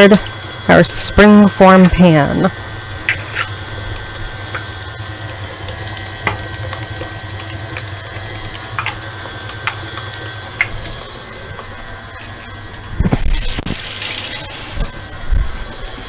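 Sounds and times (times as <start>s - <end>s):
stand mixer motor running: 0.0s - 16.0s.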